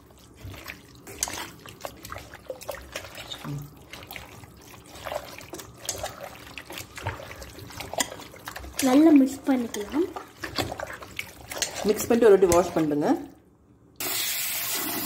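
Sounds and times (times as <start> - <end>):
hands mixing wet meat: 0.0 - 13.4.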